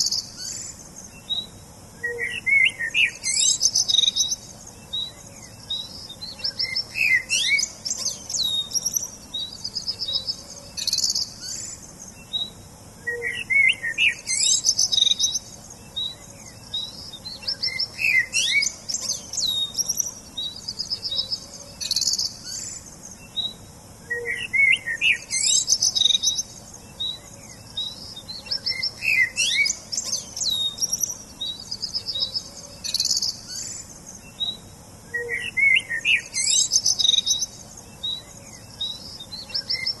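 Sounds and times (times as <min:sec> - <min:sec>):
songbirds chirping and singing: 0:00.0 - 0:40.0.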